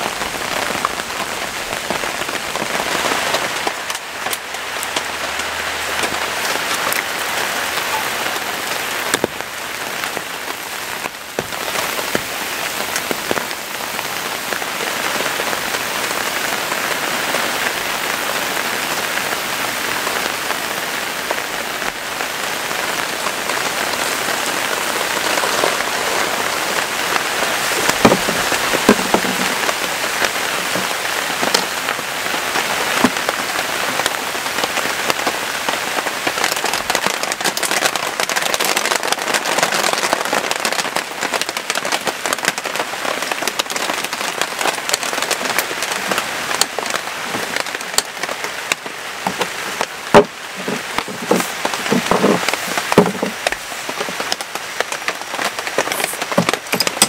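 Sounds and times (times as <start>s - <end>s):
heavy rain: 0.0s - 57.0s
raindrops ticking on surfaces: 0.0s - 57.0s.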